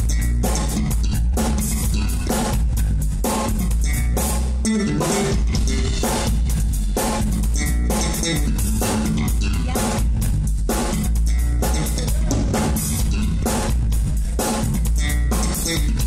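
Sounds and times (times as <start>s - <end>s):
electric bass guitar solo: 0.0s - 14.0s, 14.6s - 16.0s
drum kit playing: 0.0s - 16.0s.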